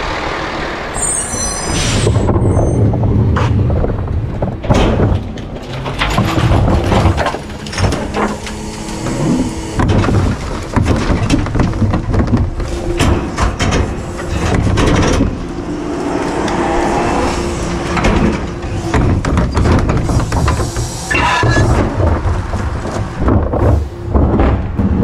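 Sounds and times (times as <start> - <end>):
truck engine rumble: 0.0 - 25.0
metal clanks and rattles: 1.6 - 16.6, 17.3 - 25.0.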